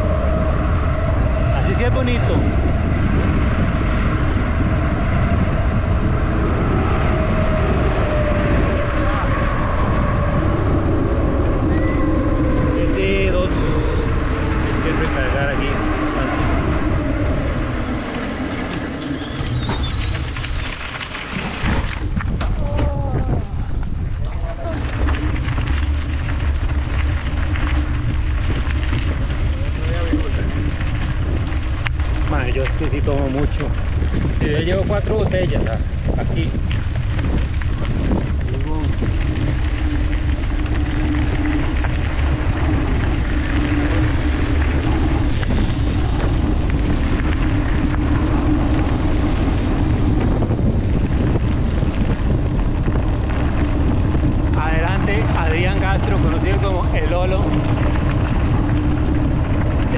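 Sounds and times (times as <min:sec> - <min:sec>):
bike tyre noise: 0:00.0 - 0:59.9
constant low hum: 0:00.0 - 0:59.9
wind rumbling on microphone: 0:00.0 - 0:59.9.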